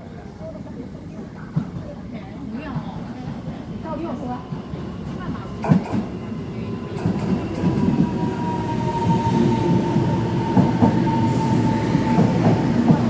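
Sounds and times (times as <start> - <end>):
train rumbling over rails: 0.1 - 13.0.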